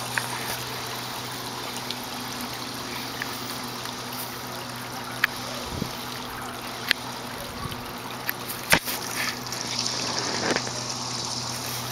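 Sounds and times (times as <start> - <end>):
small waterfall trickling and splashing: 0.0 - 11.9
steady low hum: 0.0 - 11.9.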